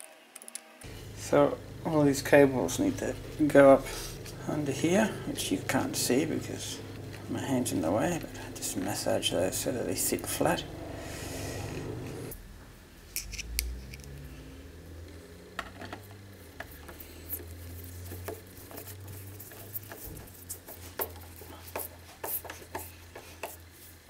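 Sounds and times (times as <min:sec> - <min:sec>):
low steady hum: 0:00.8 - 0:22.0.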